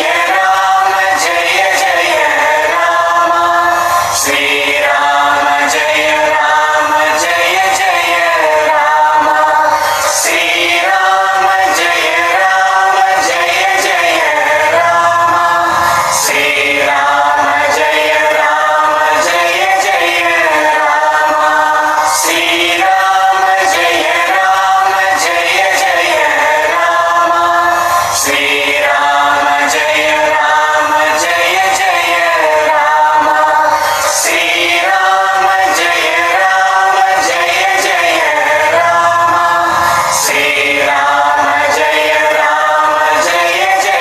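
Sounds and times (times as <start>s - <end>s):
devotional chanting: 0.0s - 44.0s
musical accompaniment: 0.0s - 44.0s.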